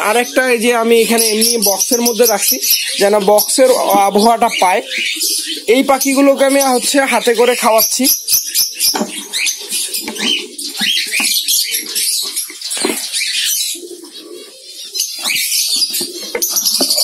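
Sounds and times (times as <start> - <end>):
cockatiels chirping: 0.3 - 17.0.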